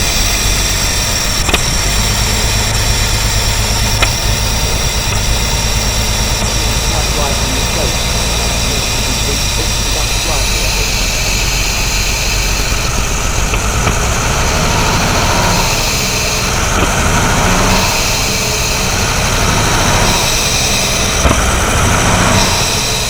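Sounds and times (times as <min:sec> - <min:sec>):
car engine running at low revs: 0:00.0 - 0:23.0.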